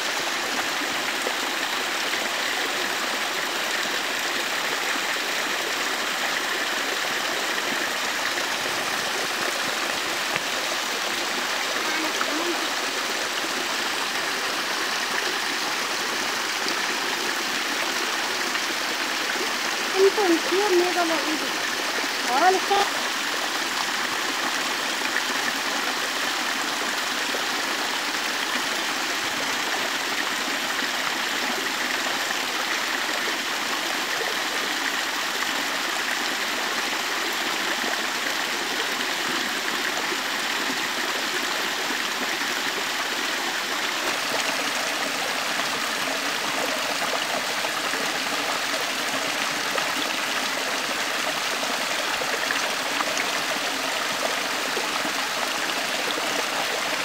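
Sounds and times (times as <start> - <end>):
stream running water: 0.0 - 57.0.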